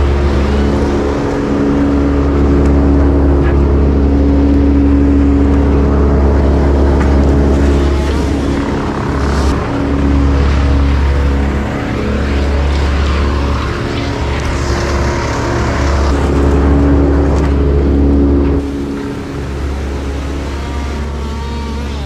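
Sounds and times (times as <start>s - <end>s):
wood chipper engine running: 0.0s - 22.0s.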